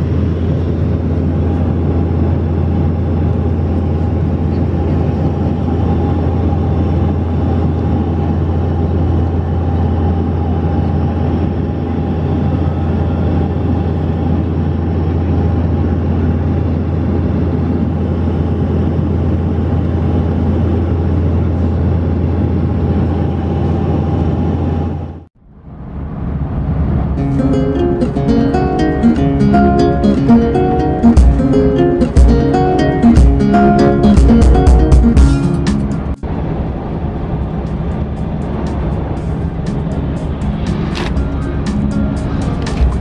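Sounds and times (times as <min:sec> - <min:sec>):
airplane cabin drone: 0:00.0 - 0:43.0.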